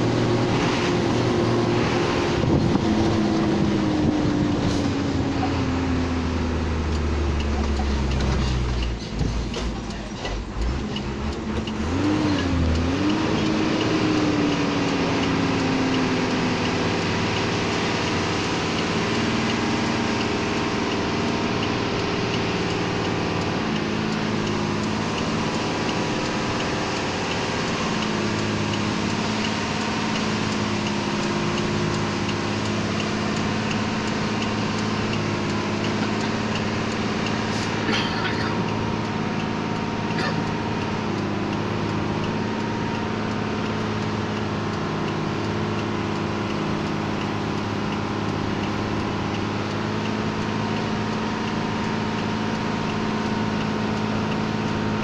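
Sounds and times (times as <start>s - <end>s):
road noise: 0.0s - 55.0s
truck engine running: 0.0s - 55.0s.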